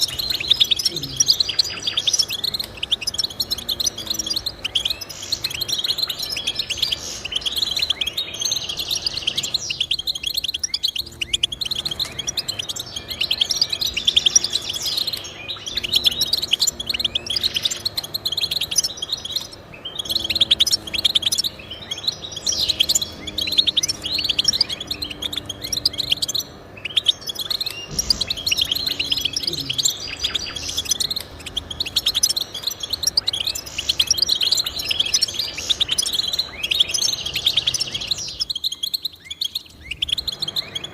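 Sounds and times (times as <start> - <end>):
finch twittering chirps and trills: 0.0 - 40.9.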